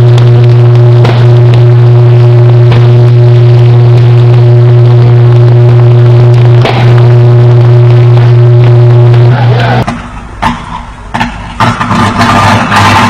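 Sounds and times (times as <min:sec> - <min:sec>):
deep electrical arc buzz: 0:00.0 - 0:13.0
electrical crackles: 0:00.0 - 0:13.0.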